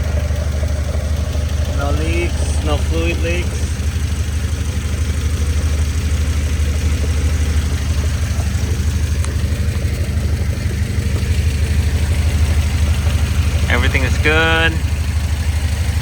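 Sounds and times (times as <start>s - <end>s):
transmission noise: 0.0s - 15.1s
car engine idling: 0.0s - 16.0s.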